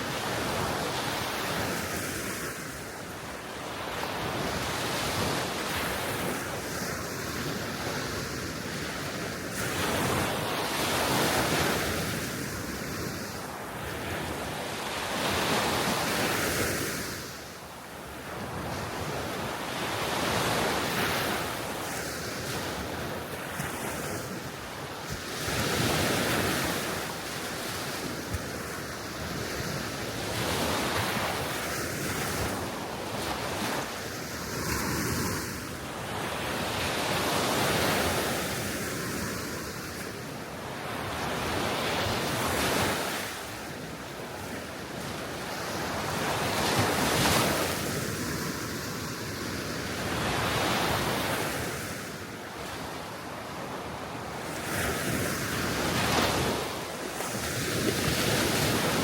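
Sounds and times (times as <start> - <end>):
sea waves washing onto shore: 0.0 - 59.0.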